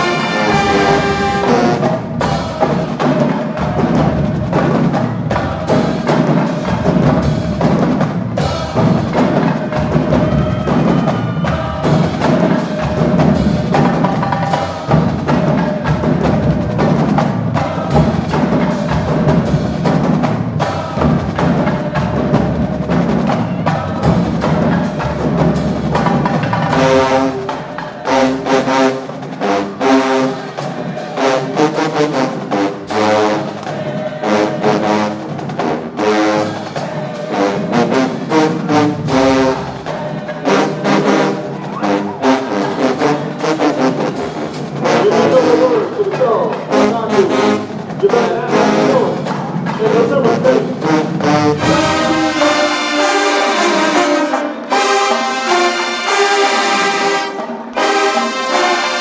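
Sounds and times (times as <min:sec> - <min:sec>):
drumline percussion groove: 0:00.0 - 0:59.0
marching band horns: 0:00.0 - 0:59.0
punchy brass chords: 0:00.0 - 0:59.0.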